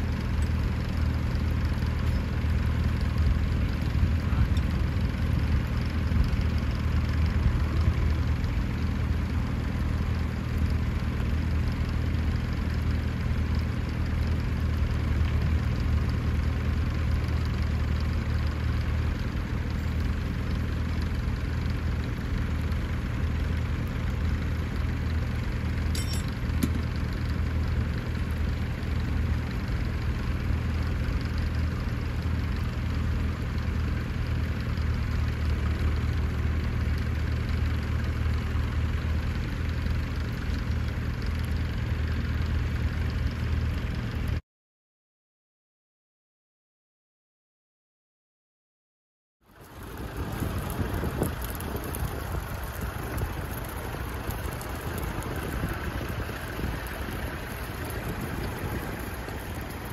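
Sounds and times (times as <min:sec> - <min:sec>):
tractor engine idling: 0:00.0 - 0:44.4, 0:49.5 - 0:59.9.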